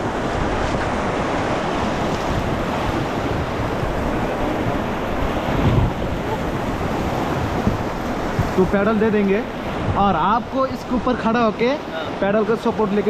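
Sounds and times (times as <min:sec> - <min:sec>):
wind buffeting microphone: 0:00.0 - 0:11.3
river rapids rushing: 0:00.0 - 0:13.0.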